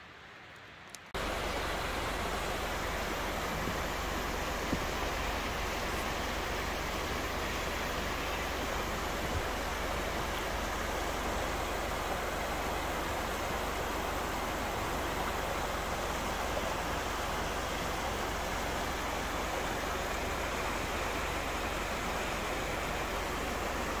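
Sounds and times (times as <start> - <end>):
creek rushing over stones: 1.1 - 24.0.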